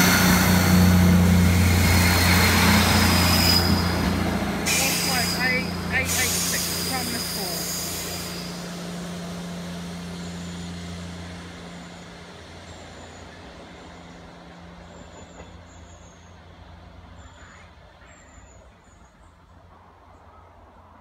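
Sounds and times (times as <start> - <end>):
diesel train engine drone: 0.0 - 20.0.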